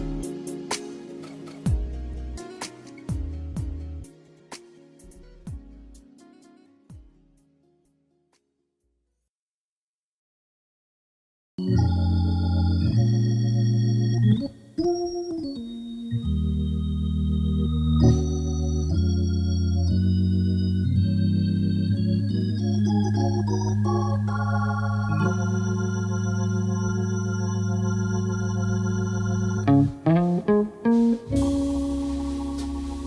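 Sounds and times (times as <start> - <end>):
held keyboard chords: 0.0 - 7.1, 11.6 - 33.0.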